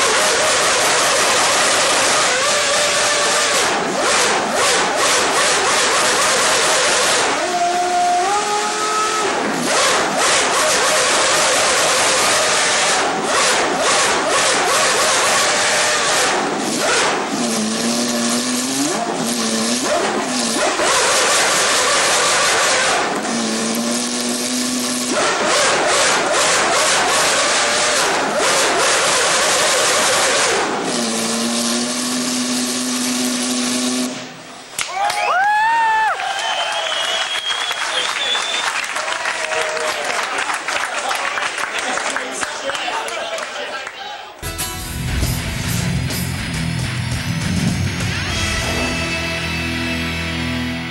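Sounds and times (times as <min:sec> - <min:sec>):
racing engine revving and idling: 0:00.0 - 0:34.8, 0:44.8 - 0:50.9.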